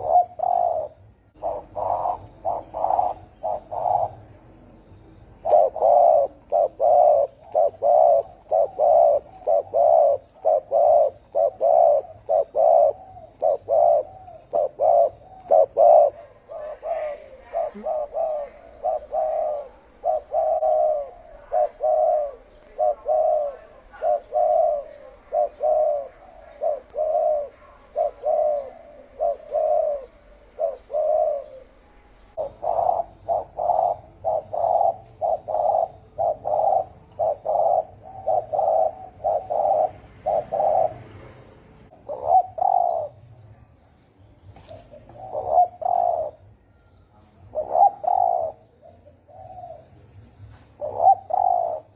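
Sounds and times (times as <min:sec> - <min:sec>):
doves cooing: 0:00.0 - 0:43.2, 0:44.5 - 0:46.7, 0:47.3 - 0:51.9.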